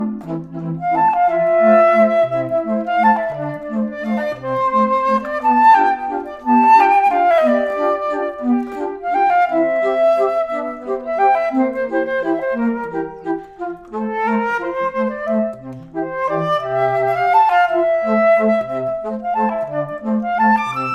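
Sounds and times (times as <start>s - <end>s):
woodwind melody: 0.0s - 20.9s.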